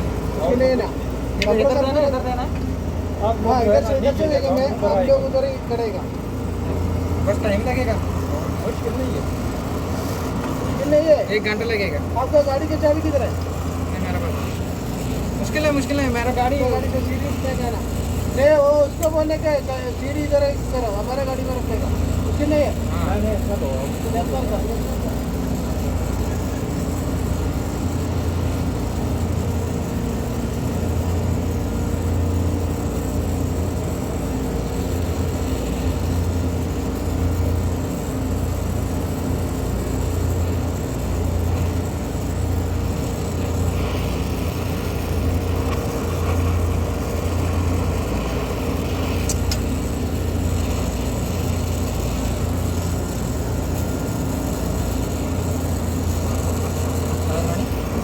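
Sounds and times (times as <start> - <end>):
faint steady hum: 0.0 - 58.0
heavy machinery droning: 0.0 - 58.0.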